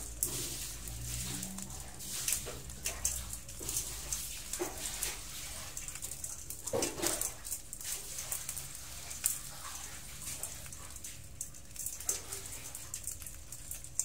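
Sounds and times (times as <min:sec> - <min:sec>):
crab shells clicking and scraping: 0:00.0 - 0:14.0.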